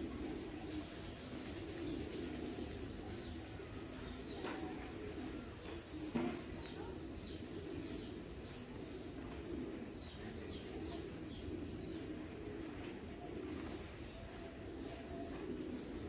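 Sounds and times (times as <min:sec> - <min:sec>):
birds cooing: 0:00.0 - 0:16.0.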